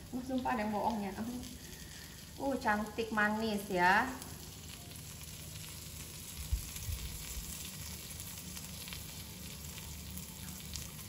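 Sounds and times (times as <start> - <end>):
omelette sizzling in a pan: 0.0 - 11.0.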